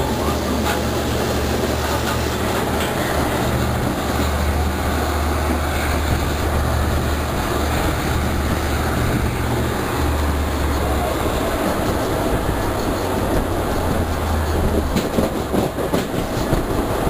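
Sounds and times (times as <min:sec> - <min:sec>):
rushing air: 0:00.0 - 0:17.0
train rumbling: 0:00.0 - 0:17.0.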